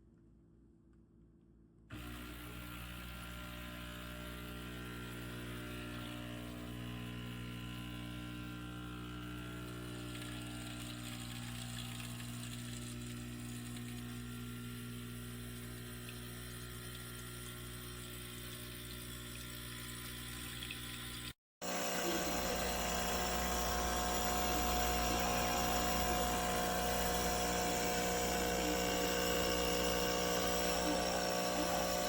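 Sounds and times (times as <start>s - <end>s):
espresso machine pump humming: 1.9s - 32.0s.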